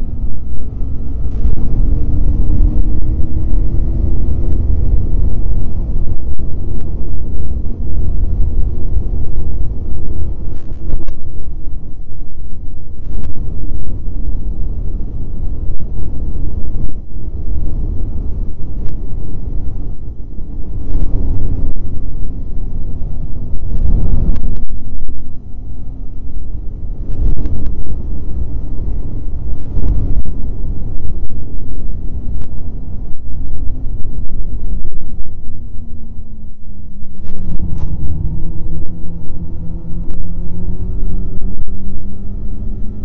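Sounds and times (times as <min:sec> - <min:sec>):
heavy low rumble: 0:00.0 - 0:43.0.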